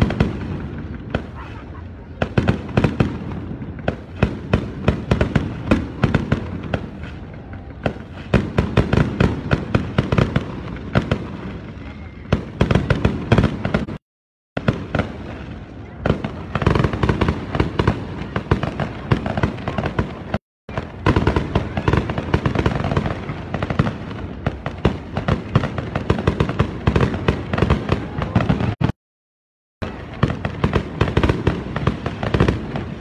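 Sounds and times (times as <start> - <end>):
fireworks bangs and crackles: 0.0 - 14.0, 14.6 - 29.0, 29.8 - 33.0.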